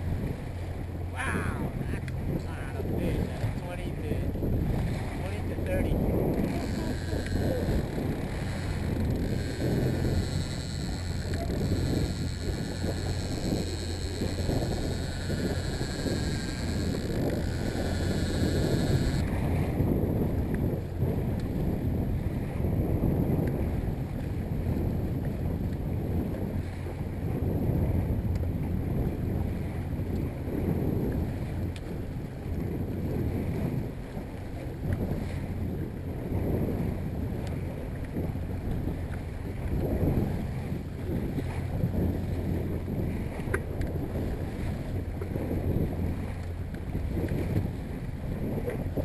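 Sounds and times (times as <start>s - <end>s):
choppy water washing: 0.0s - 49.0s
outboard motor humming: 0.0s - 49.0s
wind buffeting microphone: 0.0s - 49.0s.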